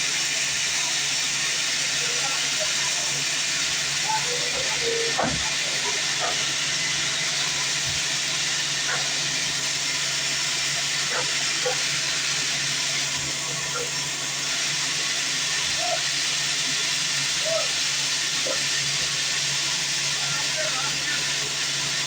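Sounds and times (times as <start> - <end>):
bandsaw running: 0.0 - 22.0.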